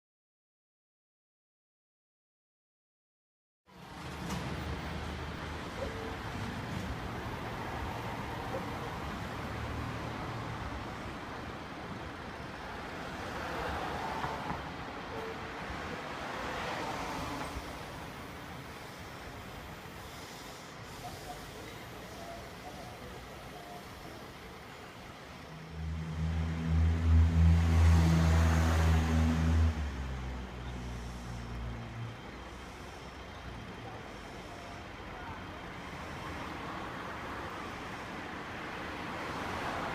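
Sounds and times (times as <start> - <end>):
vehicle engine rumble: 3.7 - 15.1, 17.2 - 39.9.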